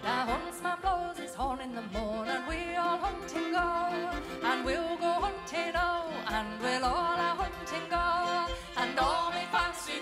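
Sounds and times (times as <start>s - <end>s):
fiddle and folk band: 0.0s - 10.0s
woman singing a folk song: 0.0s - 10.0s.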